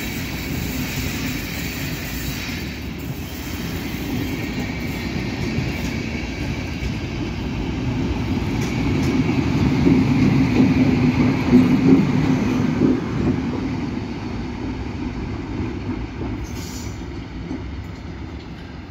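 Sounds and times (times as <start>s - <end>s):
train passing: 0.0s - 18.9s.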